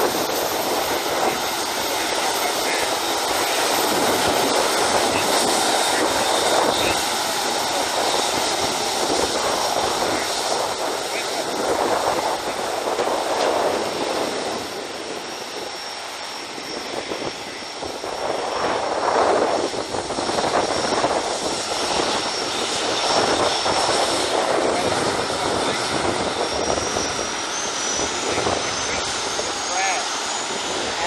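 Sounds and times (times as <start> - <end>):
jet engines whining and rushing: 0.0 - 31.0.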